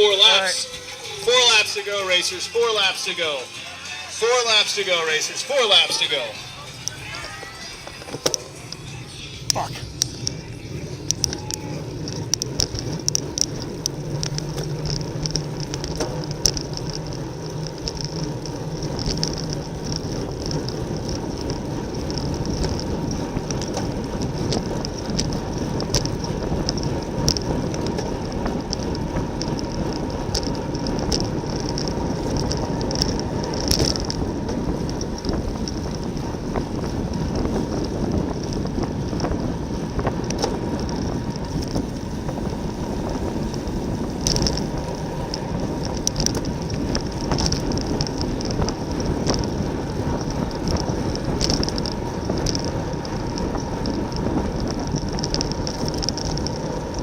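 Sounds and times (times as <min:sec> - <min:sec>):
wind rushing over microphone: 0:09.2 - 0:57.0
bicycle clicks and ticks: 0:09.5 - 0:57.0.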